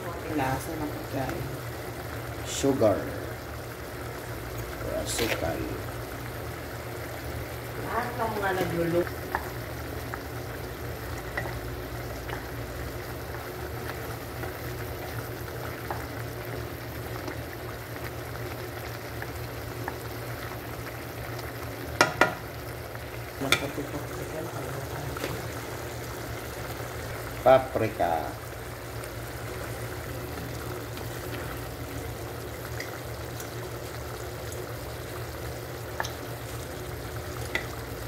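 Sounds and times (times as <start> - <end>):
squid sizzling in sauce: 0.0 - 38.0.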